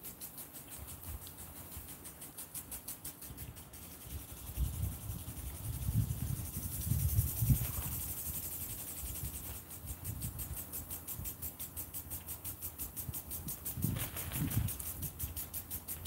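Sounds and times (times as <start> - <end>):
garden hose spraying water: 0.0 - 16.0
insects chirping: 0.0 - 16.0.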